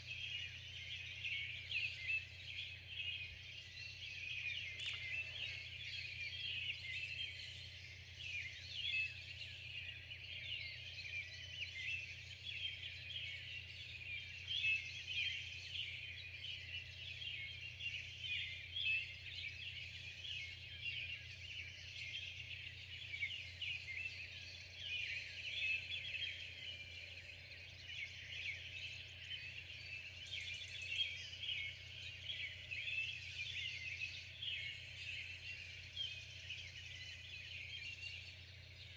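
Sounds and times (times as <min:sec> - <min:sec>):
many birds chirping and singing: 0:00.0 - 0:38.9.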